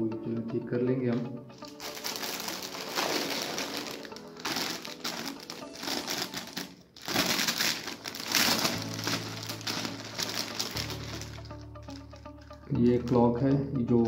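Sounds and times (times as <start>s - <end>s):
plastic bag crinkling: 1.6s - 13.2s.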